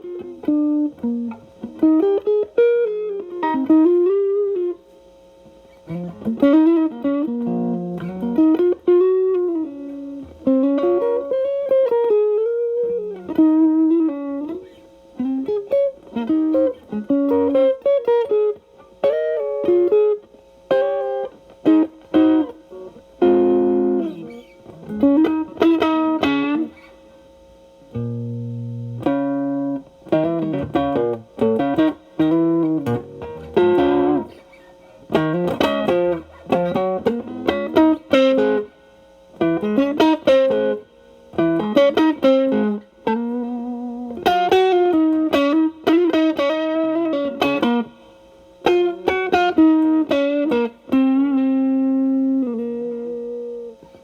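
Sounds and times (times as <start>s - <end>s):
distorted electric guitar blues lead: 0.0s - 4.8s, 5.4s - 27.1s, 27.9s - 54.0s
guitar chord strummed: 5.5s - 27.2s, 27.8s - 54.0s.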